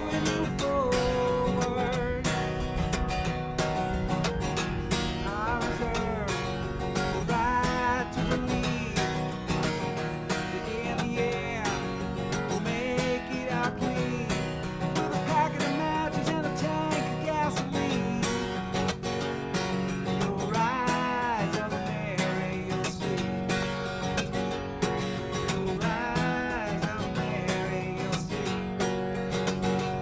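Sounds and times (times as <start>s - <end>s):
acoustic guitar strumming: 0.0s - 30.0s
bending guitar melody line: 0.0s - 30.0s.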